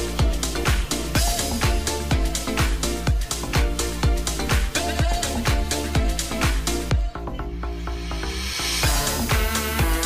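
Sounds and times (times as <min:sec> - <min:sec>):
dance music with drum beat: 0:00.0 - 0:10.0.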